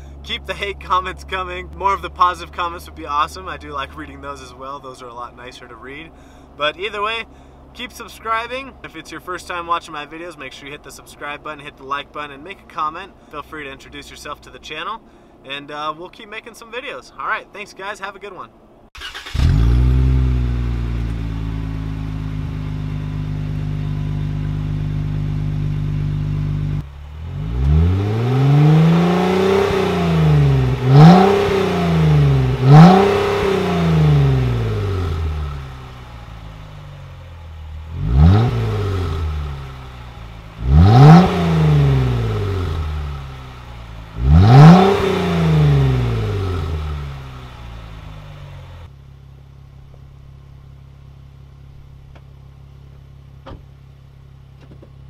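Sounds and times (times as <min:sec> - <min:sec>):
car engine idling and revving: 0:00.0 - 0:15.4, 0:18.5 - 0:55.0.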